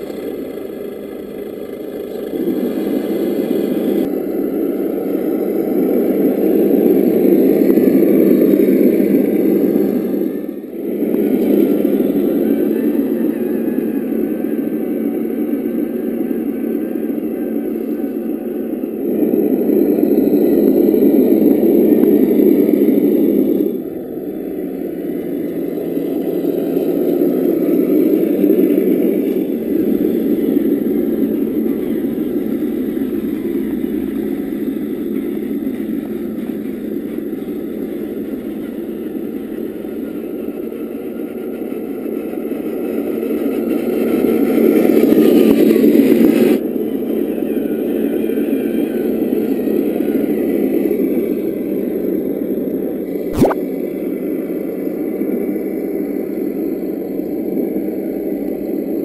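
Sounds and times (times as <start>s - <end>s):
simulated diesel engine sound: 0.0s - 59.0s.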